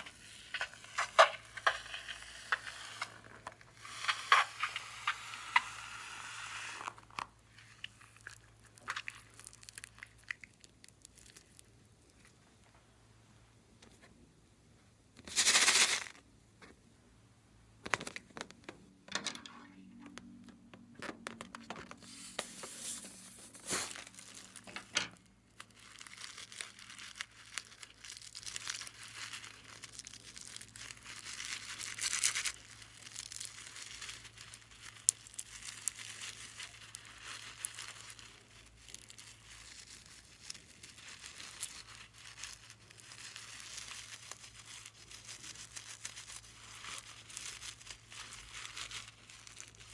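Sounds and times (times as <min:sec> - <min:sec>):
slime crackling and popping: 0:00.0 - 0:12.3, 0:21.0 - 0:49.9.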